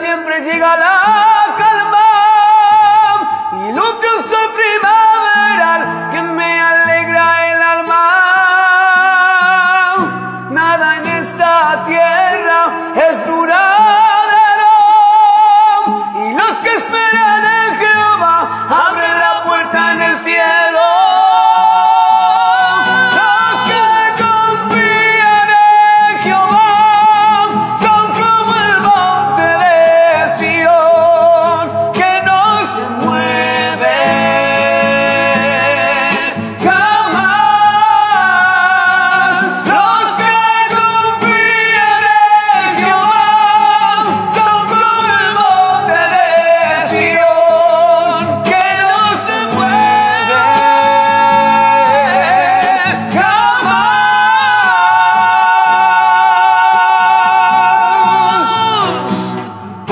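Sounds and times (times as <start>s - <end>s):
worship song instrumental: 0.0s - 59.9s.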